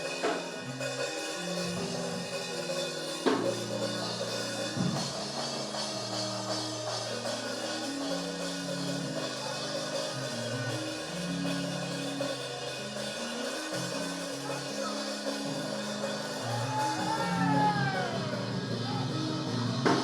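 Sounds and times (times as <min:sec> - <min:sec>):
drum kit: 0:00.0 - 0:20.0.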